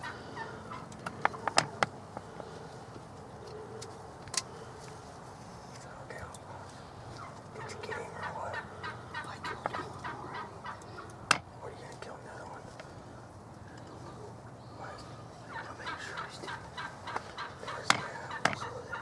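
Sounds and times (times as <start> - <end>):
turkeys gobbling: 0.0 - 5.0, 6.4 - 19.0.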